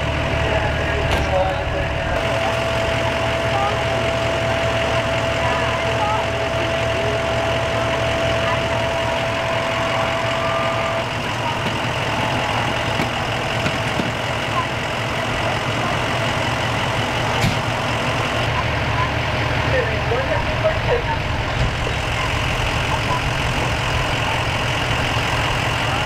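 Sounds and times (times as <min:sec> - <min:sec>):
diesel engine idling: 0:00.0 - 0:26.0
faint voices murmuring: 0:00.0 - 0:26.0.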